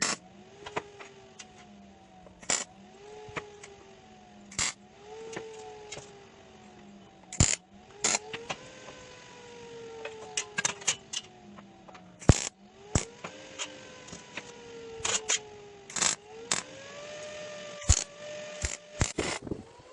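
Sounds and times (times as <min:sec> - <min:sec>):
small motor whining: 0:00.0 - 0:19.9.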